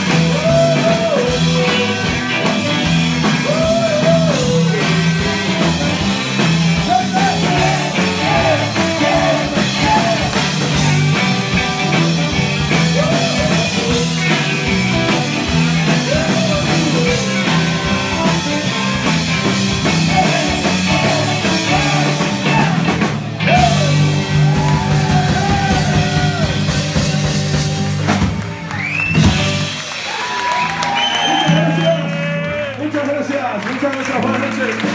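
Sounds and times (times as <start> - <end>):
drum kit: 0.0 - 32.6
electric guitars: 0.0 - 32.8
rock band playing live: 0.0 - 34.9.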